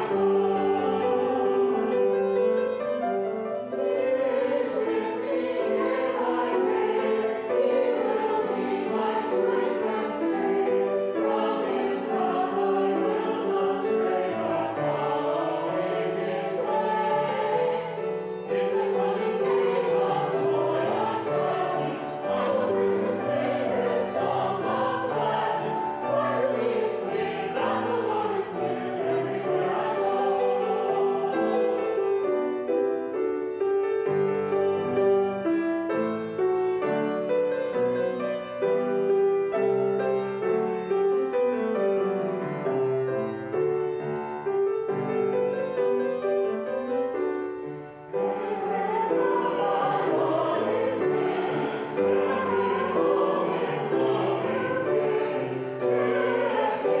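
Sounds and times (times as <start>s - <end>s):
choir singing: 0.0s - 57.0s
grand piano: 0.0s - 57.0s.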